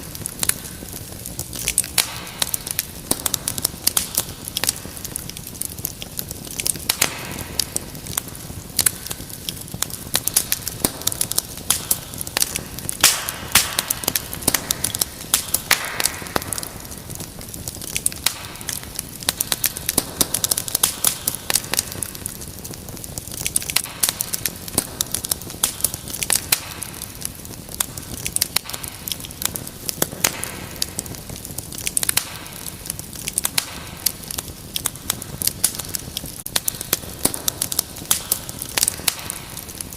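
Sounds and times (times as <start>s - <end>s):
fire hiss: 0.0s - 39.9s
wood fire crackling and popping: 0.0s - 39.9s.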